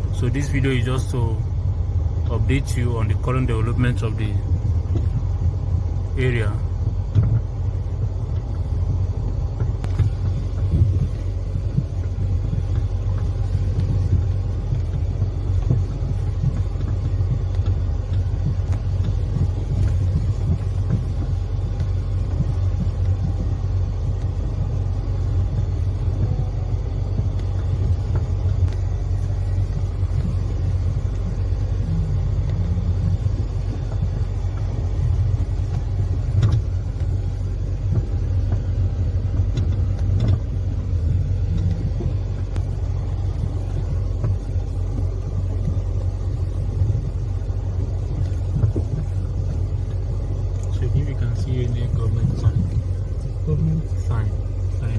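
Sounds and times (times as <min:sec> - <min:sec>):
car driving road rumble: 0:00.0 - 0:54.9.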